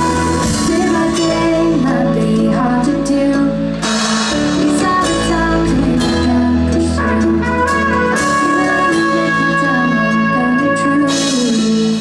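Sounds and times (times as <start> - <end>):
live rock band through pa: 0.0 - 12.0.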